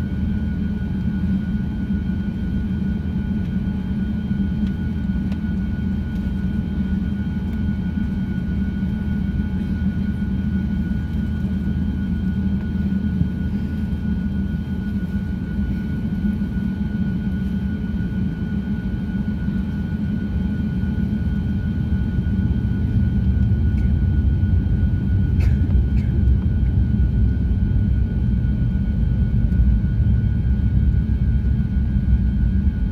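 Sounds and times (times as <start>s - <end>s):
airplane cabin rumble: 0.0s - 32.9s
constant thin whine: 0.0s - 32.9s.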